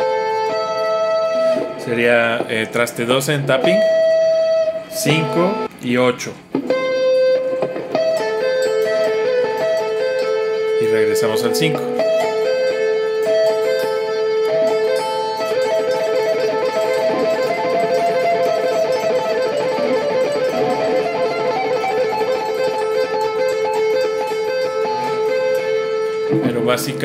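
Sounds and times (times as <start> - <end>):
electric guitar tapping legato: 0.0 - 27.0.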